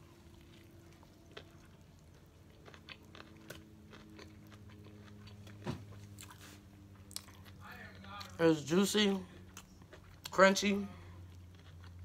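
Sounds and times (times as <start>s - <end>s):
chewing crispy food: 0.0s - 12.0s
low steady hum: 0.0s - 12.0s.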